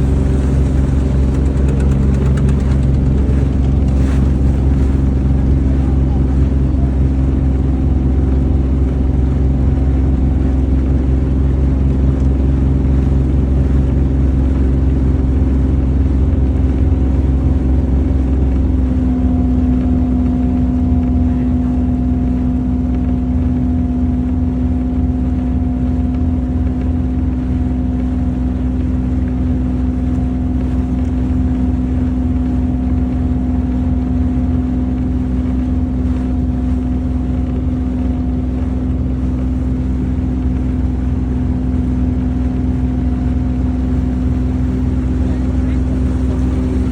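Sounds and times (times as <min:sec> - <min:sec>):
boat engine humming: 0:00.0 - 0:46.9.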